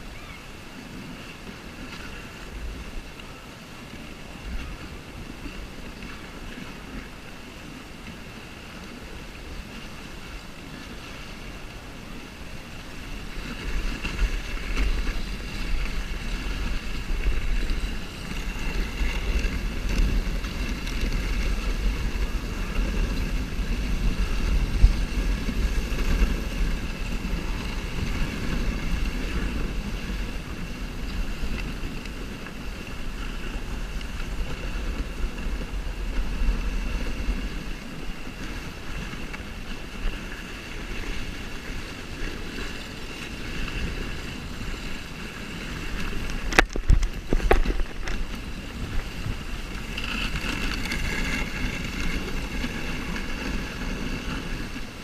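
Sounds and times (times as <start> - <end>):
sled runners scraping over snow: 0.0 - 55.0
wind on microphone: 0.0 - 55.0.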